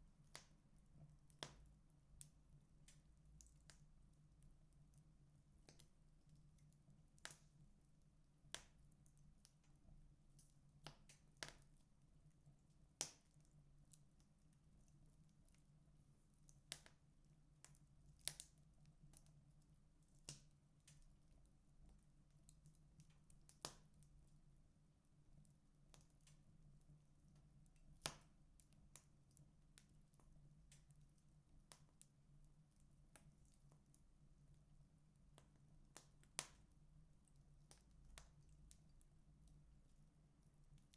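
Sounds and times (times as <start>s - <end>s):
wood fire crackling: 0.1s - 40.9s.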